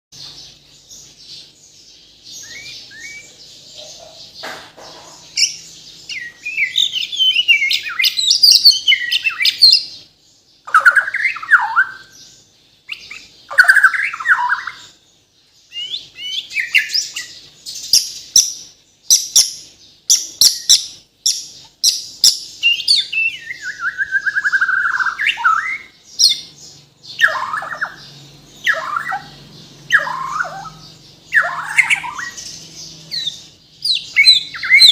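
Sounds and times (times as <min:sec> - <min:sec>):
songbird singing whistles and trills: 0:00.2 - 0:04.4, 0:05.4 - 0:10.0, 0:10.6 - 0:15.0, 0:15.7 - 0:34.9.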